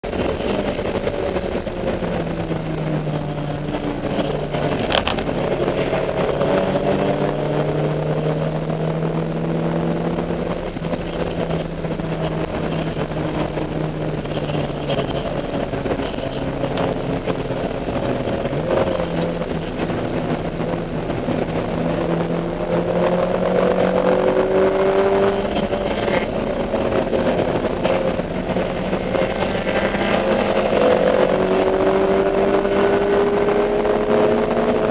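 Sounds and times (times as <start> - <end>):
race car engine: 0.0 - 34.9.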